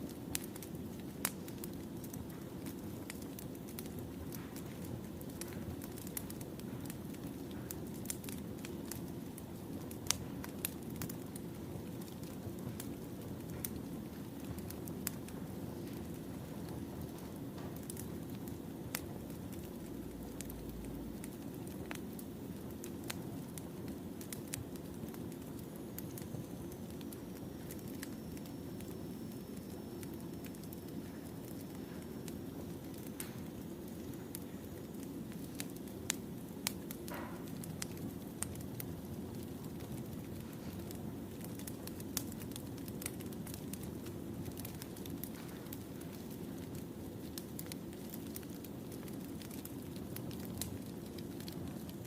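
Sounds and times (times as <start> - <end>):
rumble of flames: 0.0 - 52.0
wood fire crackling and popping: 0.0 - 52.0.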